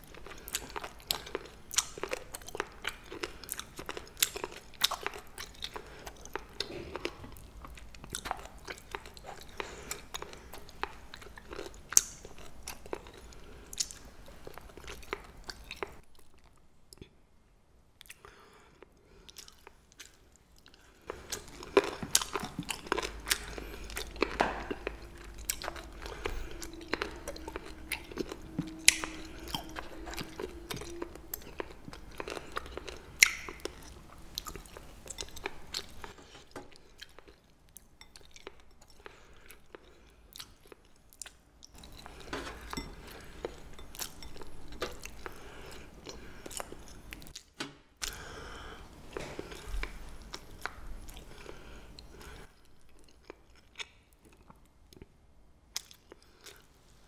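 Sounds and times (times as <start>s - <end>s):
crunchy chewing: 0.0s - 16.6s, 18.0s - 47.4s.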